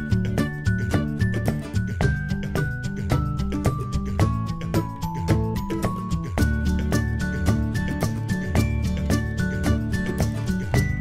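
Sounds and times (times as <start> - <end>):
background music with steady beat: 0.0 - 11.0
plucked bell-like melody: 0.0 - 11.0.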